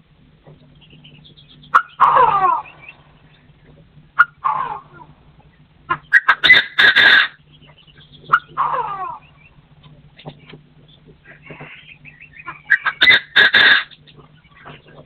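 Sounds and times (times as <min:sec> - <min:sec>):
steady low hum: 0:00.0 - 0:15.0
partridge calling: 0:00.5 - 0:15.0.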